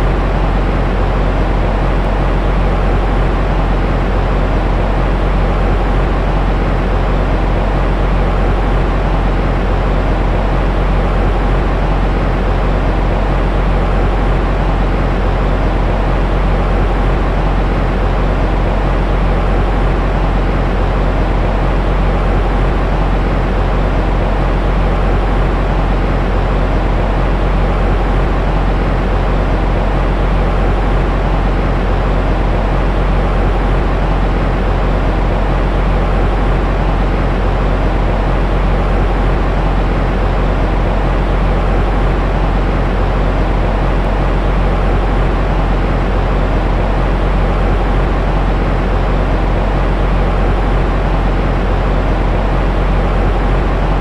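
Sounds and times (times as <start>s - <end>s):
deep rumbling white noise: 0.0s - 54.0s.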